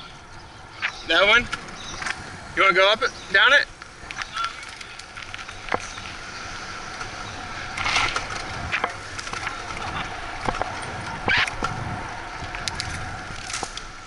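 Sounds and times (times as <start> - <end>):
bicycle tyre and wind noise: 0.0 - 14.0
bike rattles and knocks: 0.8 - 14.0.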